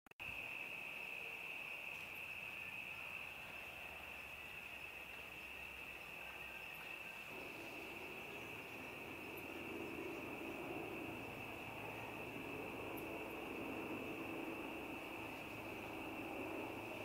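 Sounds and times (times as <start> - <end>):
crickets trilling: 0.2 - 17.0
low hum: 2.9 - 17.0.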